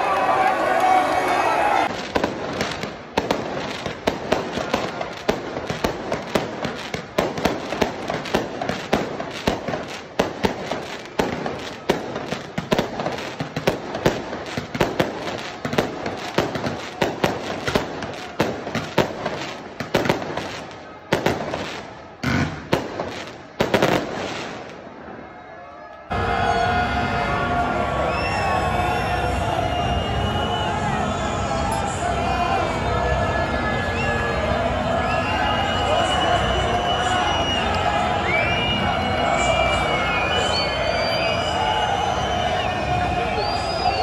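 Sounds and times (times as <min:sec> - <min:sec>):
crowd noise: 0:00.0 - 0:44.0
fireworks and firecrackers banging: 0:00.1 - 0:25.5, 0:28.1 - 0:44.0.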